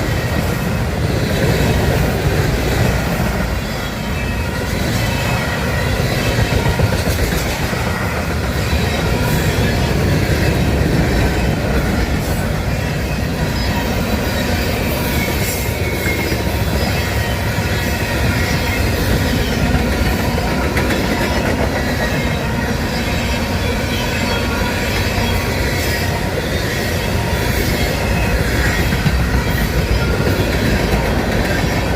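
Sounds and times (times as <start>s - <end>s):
steel wheels rumbling on rail: 0.0s - 31.9s.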